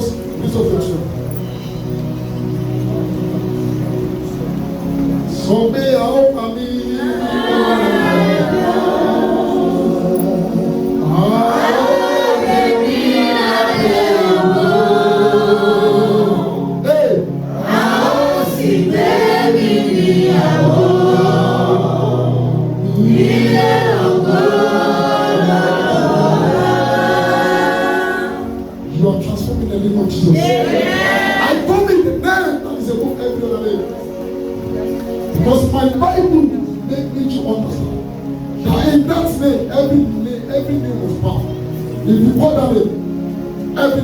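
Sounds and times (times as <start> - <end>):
choir and congregation singing: 0.0 - 44.0.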